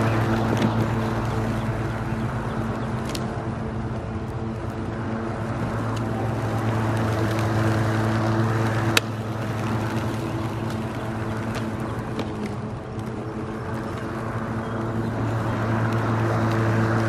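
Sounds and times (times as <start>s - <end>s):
electric lawnmower cutting grass: 0.0s - 17.0s.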